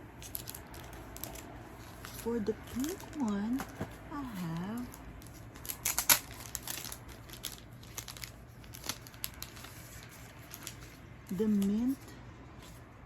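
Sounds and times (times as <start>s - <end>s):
paper and plastic crinkling: 0.0s - 12.9s.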